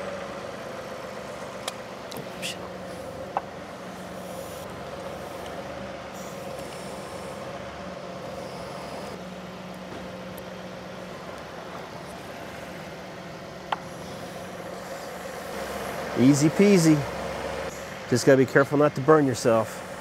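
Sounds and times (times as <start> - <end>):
mechanical drone: 0.0 - 20.0.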